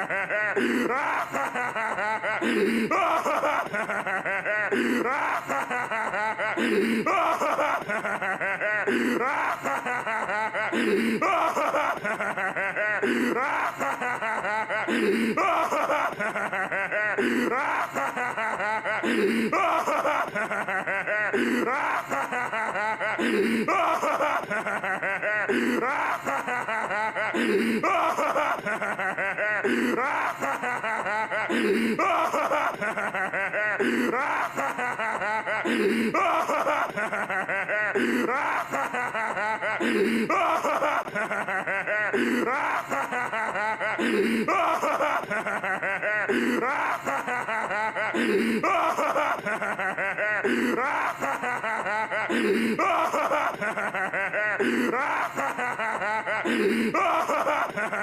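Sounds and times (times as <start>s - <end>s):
cartoon villain laughing: 0.0s - 58.0s.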